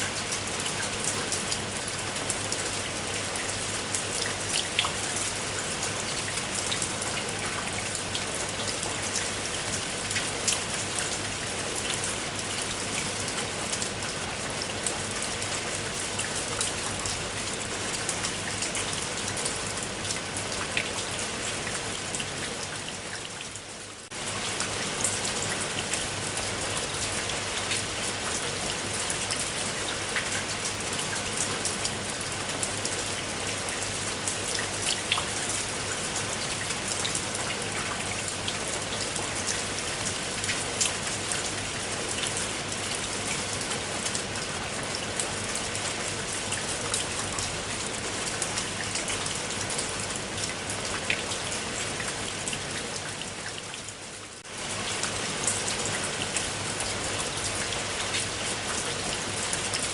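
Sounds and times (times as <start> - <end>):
rain drops ticking on a surface: 0.0 - 59.9.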